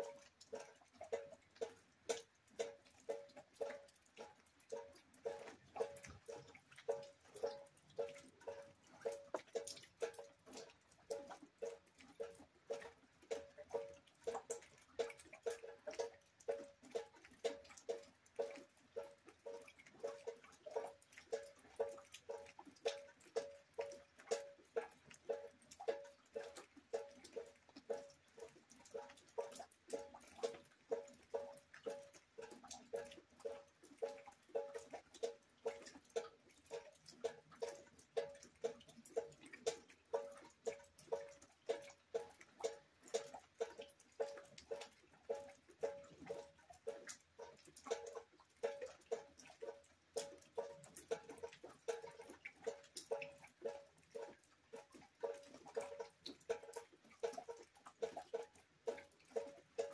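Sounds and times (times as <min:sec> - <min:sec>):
water dripping into a bucket: 0:00.0 - 0:59.9.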